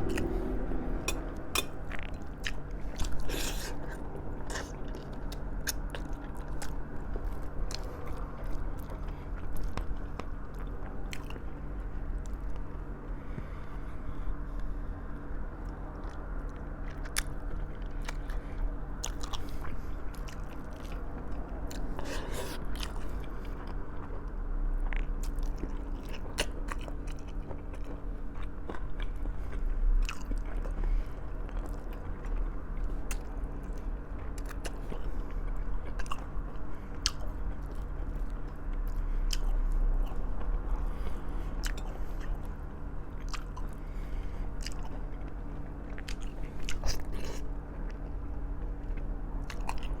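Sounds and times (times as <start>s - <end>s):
chewing food: 0.0s - 14.9s, 15.6s - 50.0s
low hum: 0.0s - 50.0s.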